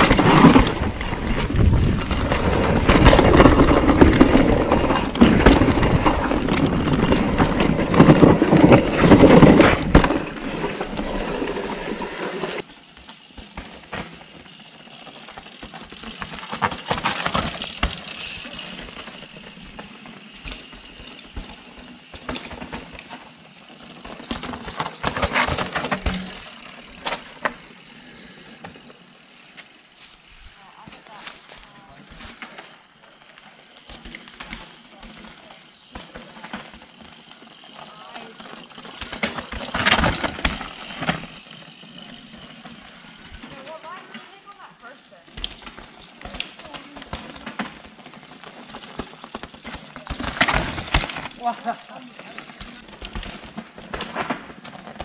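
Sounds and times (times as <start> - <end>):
bike tyres rumbling over dirt: 0.0 - 44.4, 45.3 - 55.0
bike clattering and rattling: 0.0 - 55.0
bike tyres passing on rock: 0.0 - 55.0.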